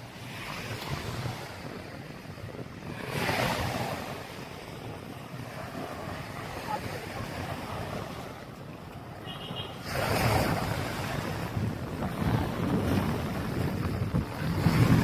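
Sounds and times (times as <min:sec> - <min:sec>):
small waves washing on beach: 0:00.0 - 0:15.0
wind buffeting microphone: 0:00.0 - 0:15.0.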